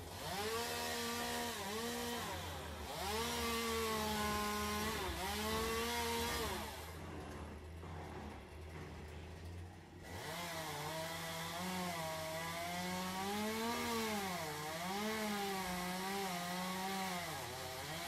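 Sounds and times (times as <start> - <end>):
chainsaw cutting wood: 0.0 - 9.2, 9.9 - 18.0.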